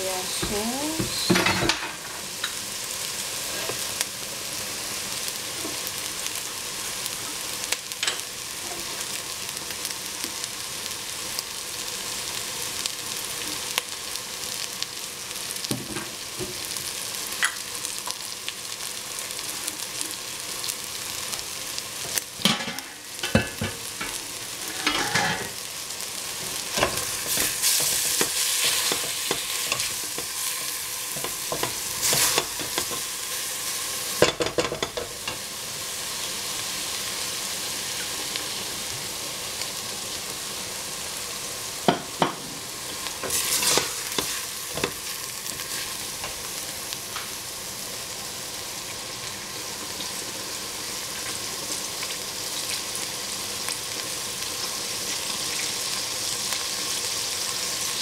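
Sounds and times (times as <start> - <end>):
meat sizzling in a pot: 0.0 - 58.0.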